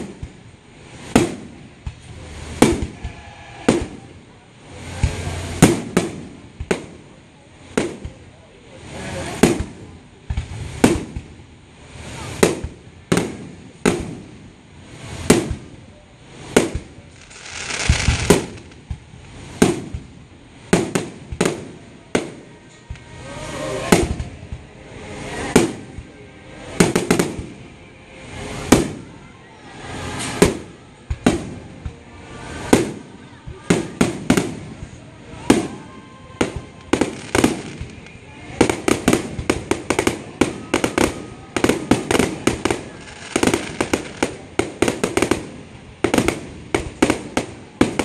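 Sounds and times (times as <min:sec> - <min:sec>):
fireworks booming: 0:00.0 - 0:24.8, 0:25.5 - 0:26.1, 0:26.7 - 0:27.7, 0:28.5 - 0:29.2, 0:30.1 - 0:48.0.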